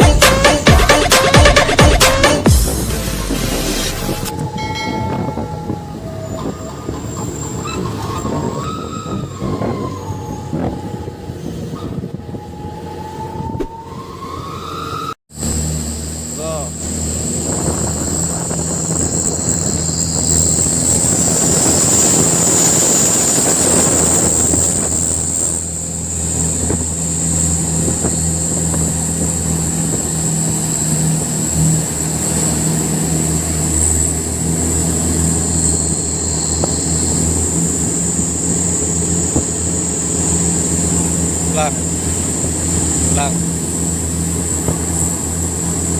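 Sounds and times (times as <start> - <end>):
truck diesel engine running: 0.0 - 13.2, 15.3 - 45.9.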